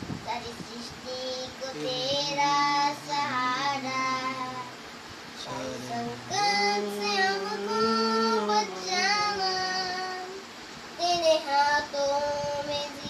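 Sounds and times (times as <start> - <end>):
boy singing devotional song: 0.0 - 13.0.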